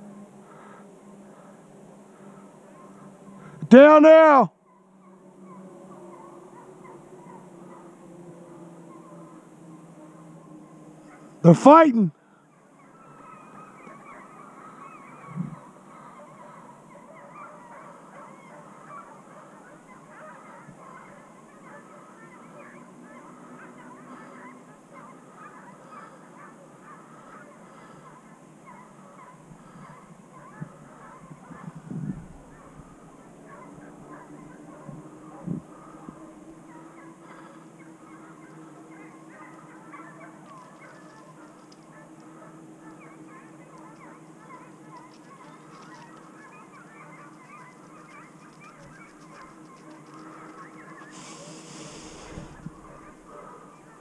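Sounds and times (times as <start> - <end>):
distant chorus of animal calls: 0.0 - 11.5, 12.1 - 54.0.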